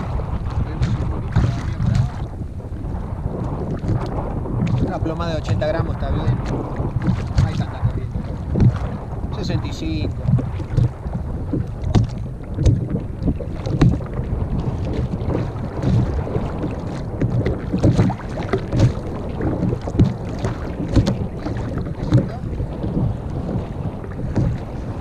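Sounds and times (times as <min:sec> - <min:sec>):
water slapping against kayak hull: 0:00.0 - 0:25.0
wind buffeting microphone: 0:00.0 - 0:25.0.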